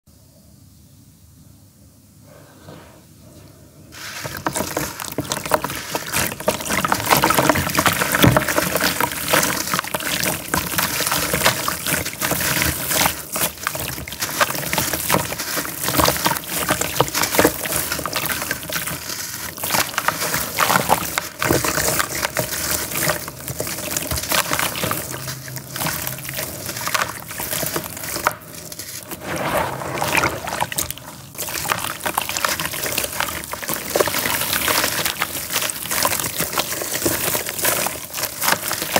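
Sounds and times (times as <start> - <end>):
charcoal crunching by hand: 4.0 - 38.9
powder splashing into water: 4.0 - 38.9.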